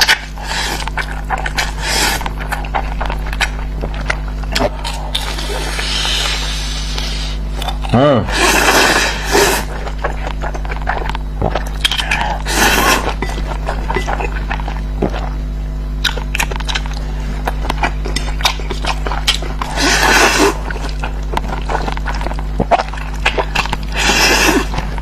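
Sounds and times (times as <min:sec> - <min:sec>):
wet chewing and mouth clicks: 0:00.0 - 0:08.0, 0:09.6 - 0:15.4, 0:16.0 - 0:25.0.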